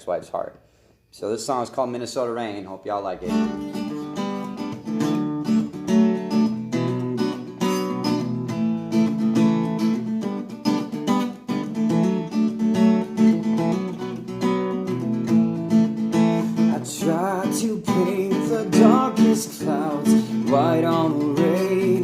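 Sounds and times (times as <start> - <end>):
acoustic guitar strumming chords: 3.2 - 22.0.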